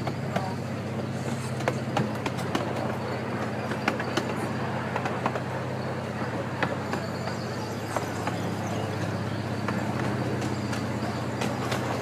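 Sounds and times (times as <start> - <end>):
miniature train humming: 0.0 - 12.0
train wheels clacking on rails: 0.0 - 12.0.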